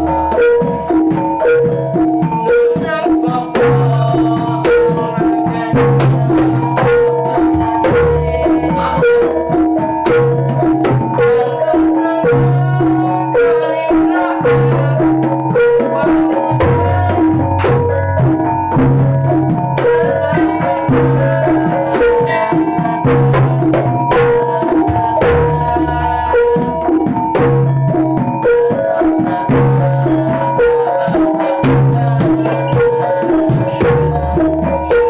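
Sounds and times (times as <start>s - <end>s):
hand drums beating: 0.0s - 35.0s
high held tone: 0.0s - 35.0s
tuned metal gamelan notes: 0.0s - 35.0s.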